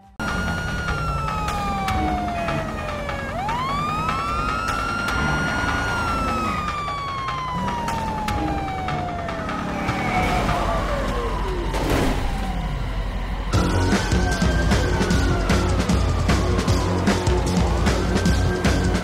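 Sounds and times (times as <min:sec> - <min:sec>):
siren-like wailing tone: 0:00.1 - 0:19.0.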